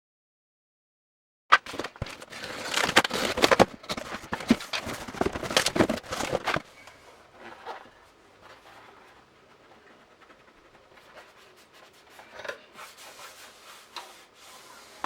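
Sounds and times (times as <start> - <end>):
packaging rustling: 1.5 - 14.4.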